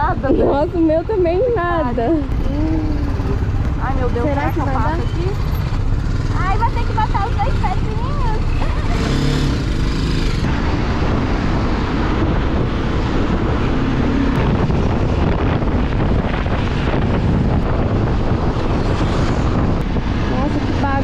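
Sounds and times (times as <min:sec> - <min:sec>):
wind rushing over microphone: 0:00.0 - 0:21.0
motorcycle engine: 0:01.9 - 0:21.0.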